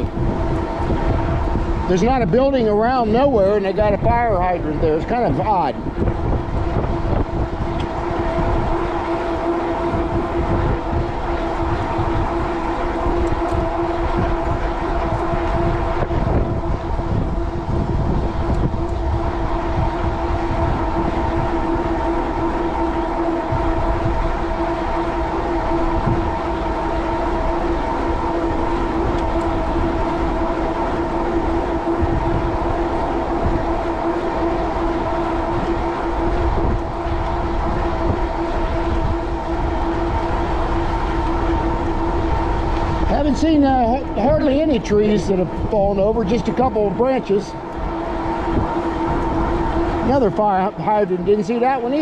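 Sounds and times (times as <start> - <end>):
electric motor whine: 0.0 - 52.0
wind buffeting microphone: 0.0 - 52.0.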